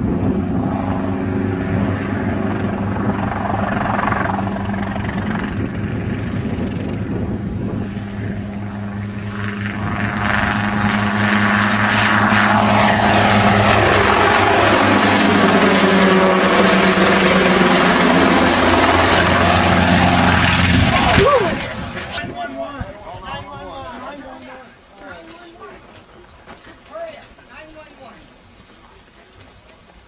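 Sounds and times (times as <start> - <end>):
helicopter rotor and engine humming: 0.0 - 25.2.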